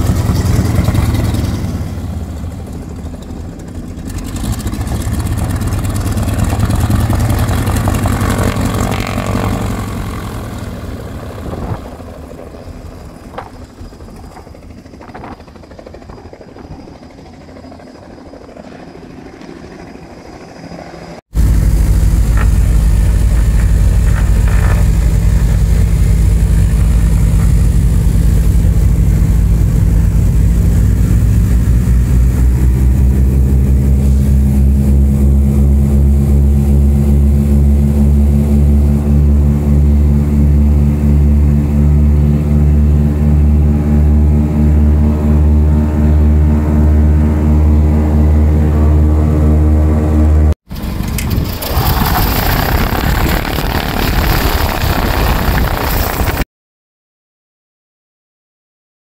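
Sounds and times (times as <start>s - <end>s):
aircraft radial engines: 0.0s - 56.4s.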